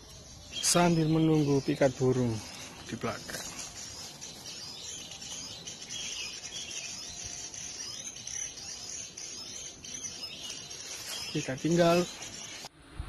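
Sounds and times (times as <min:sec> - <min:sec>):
birds chirping: 0:00.0 - 0:12.7
high-pitched insect drone: 0:00.0 - 0:12.7.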